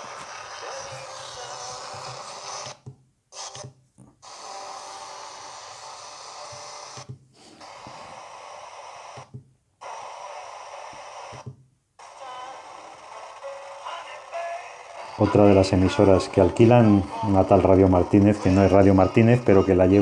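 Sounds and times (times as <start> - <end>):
radio static hiss: 0.0 - 2.8, 3.4 - 20.0.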